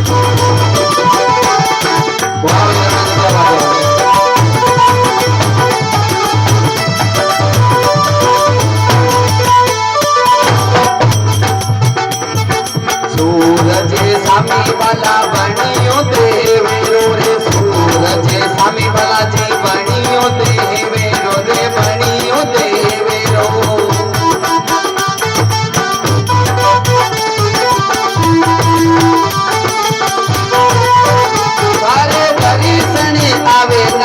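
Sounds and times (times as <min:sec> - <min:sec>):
fast dense percussion: 0:00.0 - 0:34.0
folk devotional instrumental music: 0:00.0 - 0:34.0.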